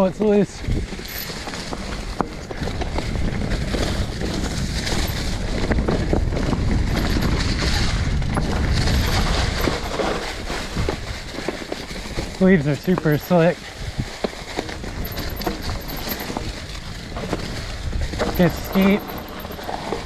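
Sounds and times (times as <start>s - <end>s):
bike rattling over bumps: 0.0s - 20.0s
tyres crunching through leaves: 0.0s - 20.0s
wind rumble on microphone: 0.0s - 20.0s.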